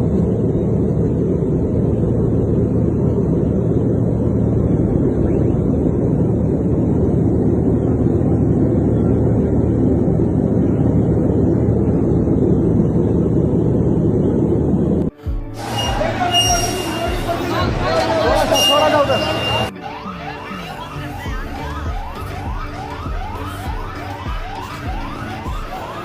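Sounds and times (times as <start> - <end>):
aircraft engines roaring: 0.0 - 26.0.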